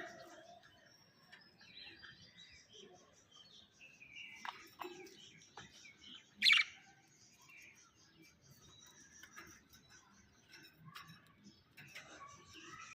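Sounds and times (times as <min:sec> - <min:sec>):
budgerigars chirping and chattering: 0:00.0 - 0:12.9.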